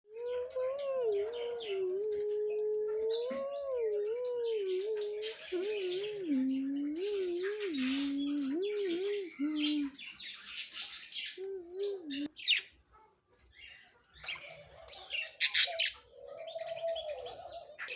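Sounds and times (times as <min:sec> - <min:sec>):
cage birds chirping: 0:00.1 - 0:17.9.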